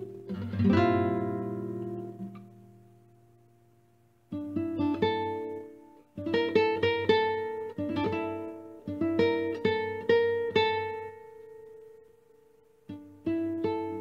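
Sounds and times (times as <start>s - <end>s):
acoustic guitar plucking: 0.0s - 3.7s, 4.3s - 14.0s.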